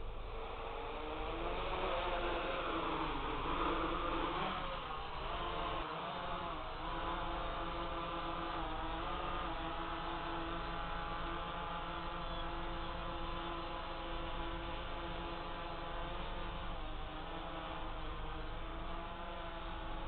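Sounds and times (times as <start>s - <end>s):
drone motors humming: 0.0s - 20.0s.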